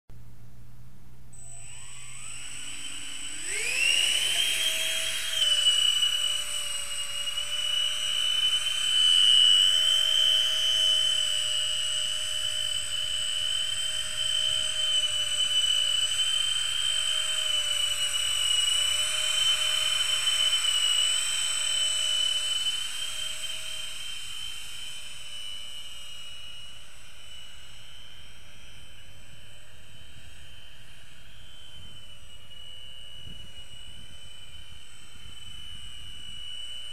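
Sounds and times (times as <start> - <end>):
drone fans whining: 1.4 - 36.9.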